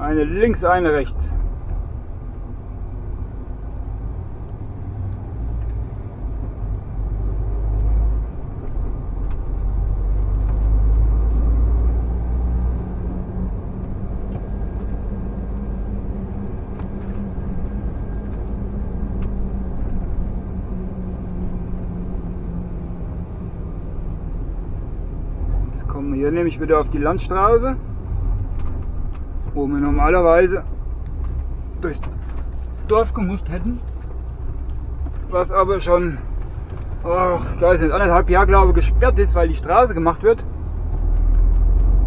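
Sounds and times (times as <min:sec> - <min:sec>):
lorry diesel engine: 0:00.0 - 0:42.0.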